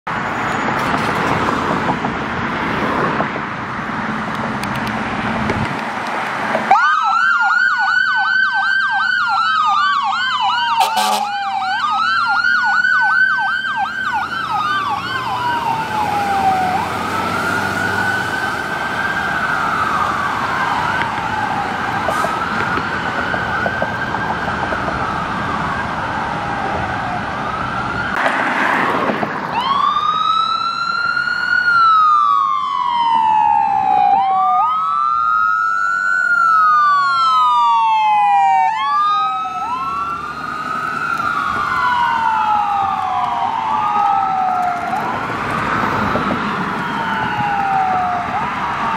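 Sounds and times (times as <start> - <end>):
fire truck siren wailing and yelping: 6.4 - 48.9
ambulance siren wailing: 6.5 - 48.9.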